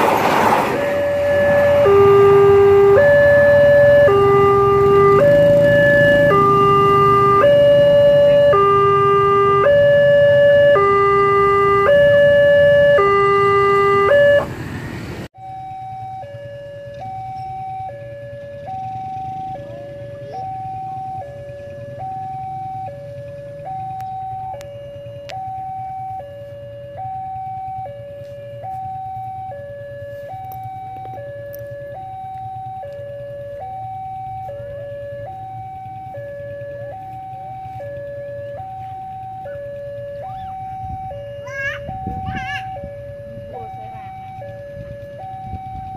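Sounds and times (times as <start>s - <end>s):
faint fast two-tone crossing alarm: 0.8s - 14.5s, 15.4s - 45.9s
level crossing alarm two-tone signal: 0.8s - 14.5s, 15.4s - 45.9s.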